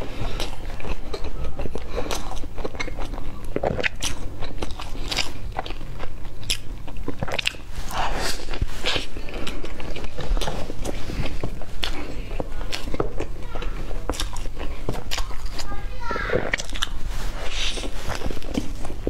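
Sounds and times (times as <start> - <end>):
soft wet chewing: 0.0 - 19.0.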